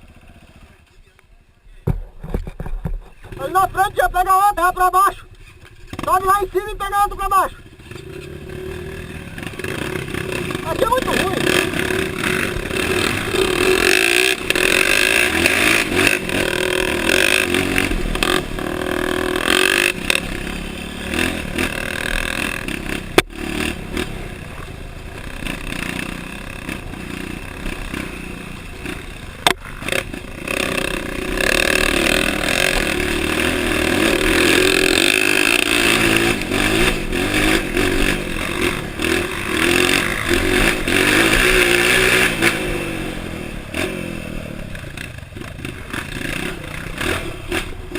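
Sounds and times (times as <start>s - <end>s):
dirt bike engine revving: 2.6s - 47.9s.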